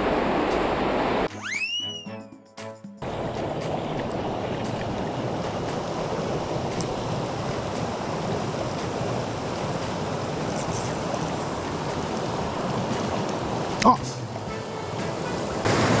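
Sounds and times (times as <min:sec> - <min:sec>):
stream water rushing: 0:00.0 - 0:02.1, 0:03.0 - 0:16.0.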